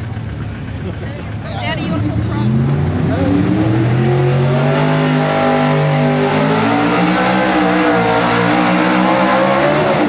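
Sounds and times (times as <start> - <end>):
truck engine revving hard: 1.7 - 10.0.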